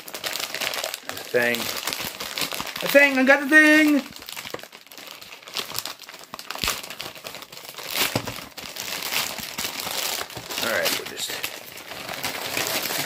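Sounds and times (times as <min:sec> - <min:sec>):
package tearing and crinkling: 0:00.0 - 0:13.0.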